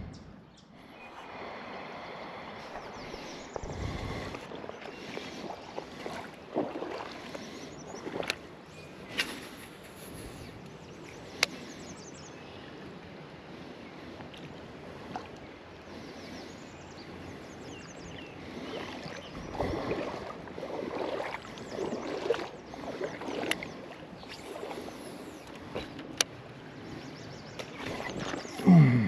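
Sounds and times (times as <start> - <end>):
water sloshing and splashing: 1.0 - 11.6, 13.6 - 16.1, 17.9 - 29.0.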